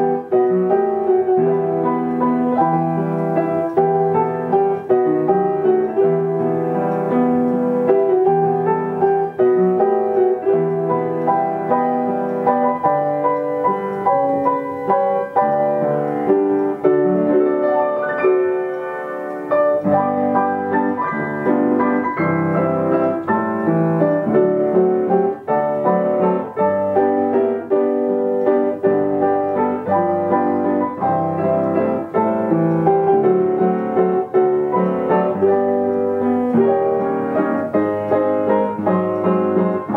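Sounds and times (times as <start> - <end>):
upright piano playing: 0.0 - 39.9.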